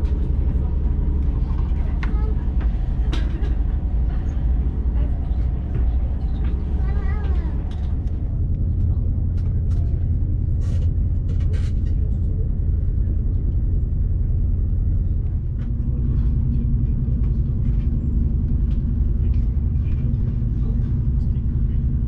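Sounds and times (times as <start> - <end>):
low steady hum: 0.0 - 22.0
train rumbling on track: 0.0 - 22.0.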